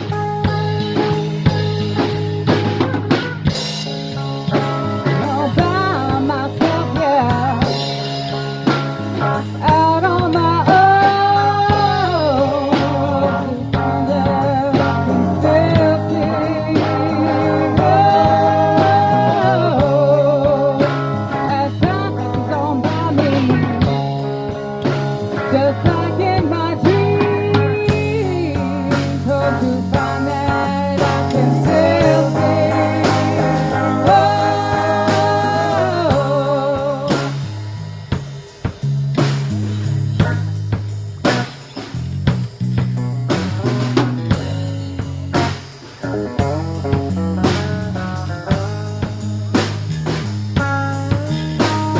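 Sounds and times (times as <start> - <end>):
bass and drum groove: 0.0 - 51.9
lead guitar with vibrato: 0.0 - 51.9.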